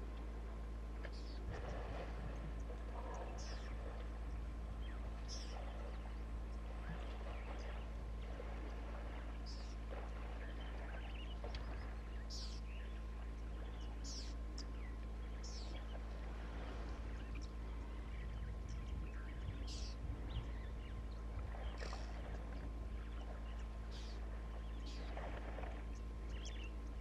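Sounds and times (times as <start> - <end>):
low outdoor hum and rumble: 0.0 - 27.0
high bird calls: 2.6 - 8.4, 9.1 - 16.2, 16.8 - 27.0.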